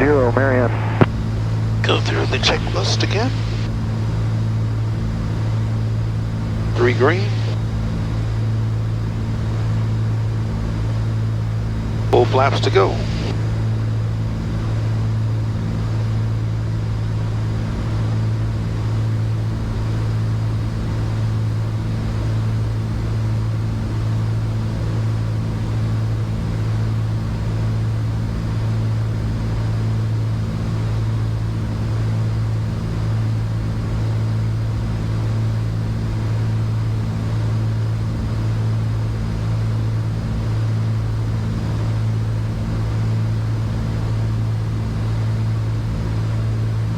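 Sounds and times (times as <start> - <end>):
propeller engines droning in flight: 0.0 - 46.9.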